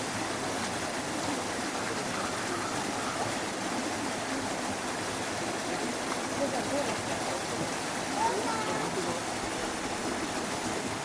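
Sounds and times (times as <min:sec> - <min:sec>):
running water rushing: 0:00.0 - 0:11.0
faint distant voices: 0:01.2 - 0:10.9.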